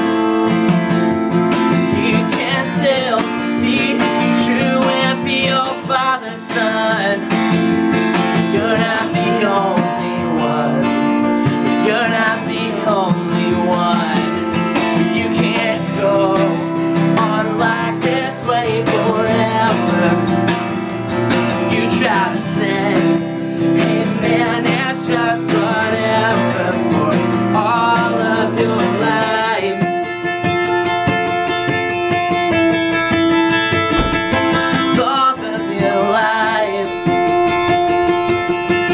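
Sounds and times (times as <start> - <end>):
man singing: 0.0 - 0.8, 1.5 - 38.9
acoustic guitar strumming: 0.0 - 38.9.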